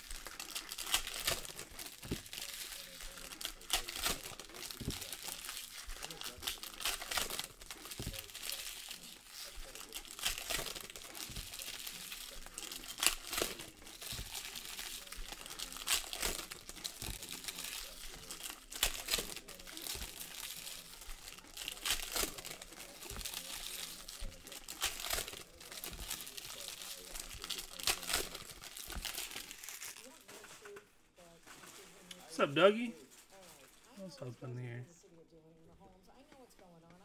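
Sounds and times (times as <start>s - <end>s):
foil wrappers crinkling and tearing: 0.0s - 34.3s.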